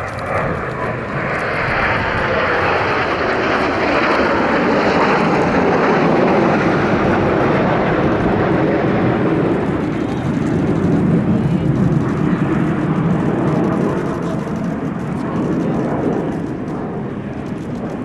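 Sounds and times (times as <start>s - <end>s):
jet aircraft roaring past: 0.0s - 18.0s.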